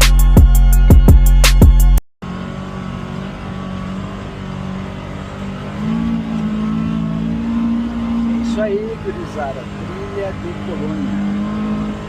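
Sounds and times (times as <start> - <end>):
utility vehicle engine revving: 0.0 - 12.0.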